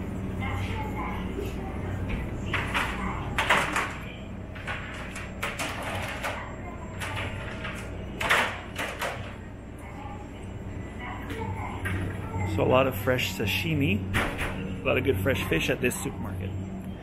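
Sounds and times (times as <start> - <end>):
faint voices: 0.0 - 17.0
steady low hum: 0.0 - 17.0.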